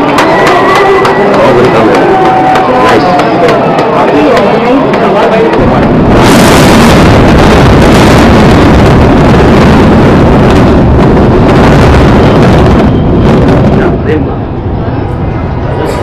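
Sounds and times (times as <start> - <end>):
buildings collapsing with rumbling roar: 0.0 - 16.0.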